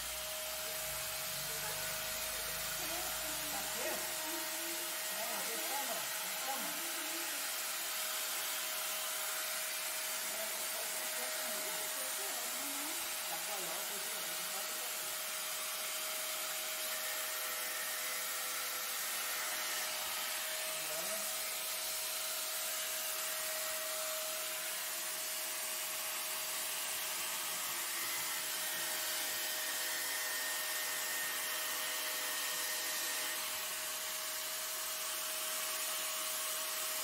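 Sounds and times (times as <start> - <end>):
angle grinder cutting metal: 0.0 - 37.0.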